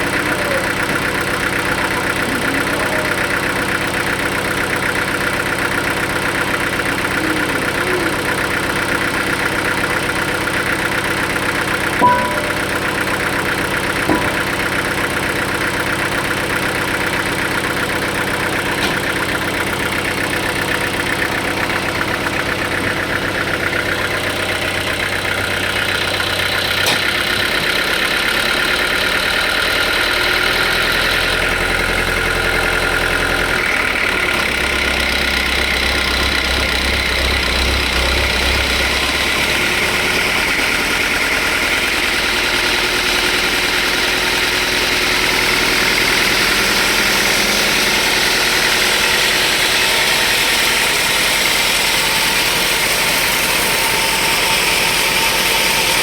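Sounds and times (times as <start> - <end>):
sawmill machinery motor whine: 0.0 - 56.0.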